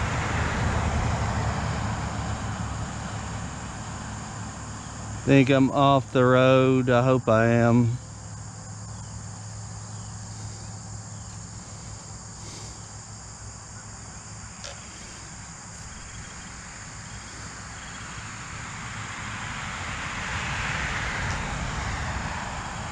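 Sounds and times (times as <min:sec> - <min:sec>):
approaching vehicle: 0:00.0 - 0:22.9
crickets and insects chirping: 0:00.0 - 0:22.9
low outdoor rumble: 0:00.0 - 0:22.9.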